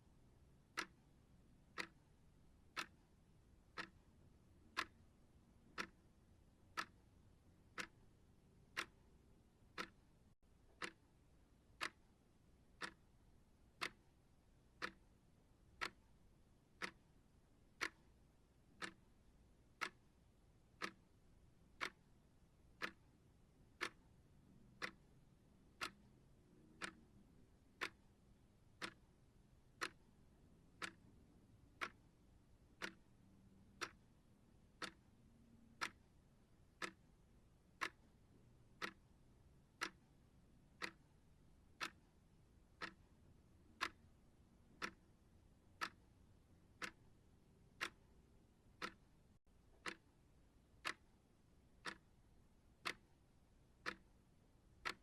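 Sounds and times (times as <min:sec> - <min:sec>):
clock ticking: 0:00.4 - 0:55.0.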